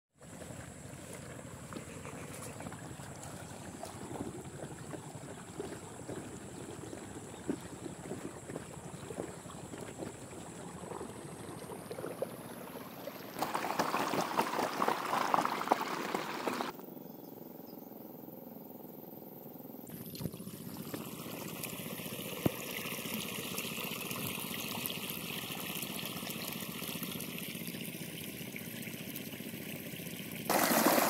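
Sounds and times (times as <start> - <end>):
water gurgling in a channel: 0.2 - 16.7, 19.9 - 31.0.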